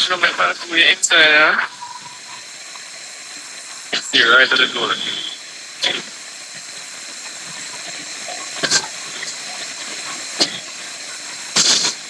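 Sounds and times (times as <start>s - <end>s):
rain: 0.0s - 12.0s.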